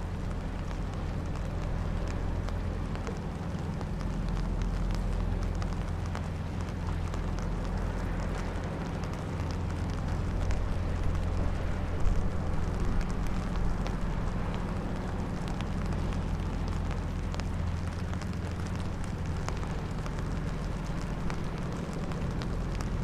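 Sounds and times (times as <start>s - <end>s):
boat diesel engine drone: 0.0s - 23.0s
light rain ticking: 0.0s - 23.0s
wind rumble: 0.0s - 23.0s.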